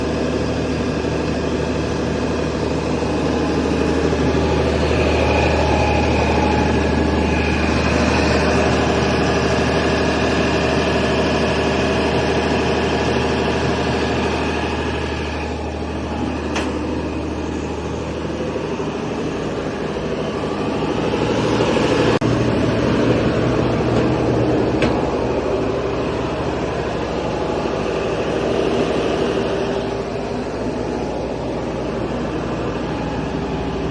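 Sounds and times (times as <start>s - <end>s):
drilling rig engine hum: 0.0s - 33.9s.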